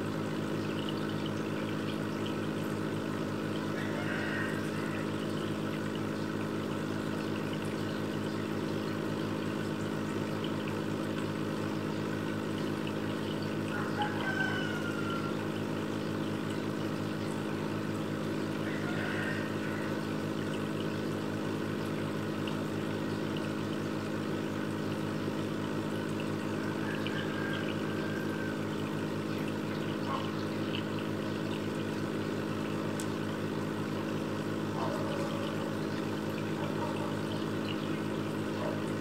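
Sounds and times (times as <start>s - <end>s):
aquarium pump motor hum: 0.0s - 39.0s
water trickling in tank: 0.0s - 39.0s.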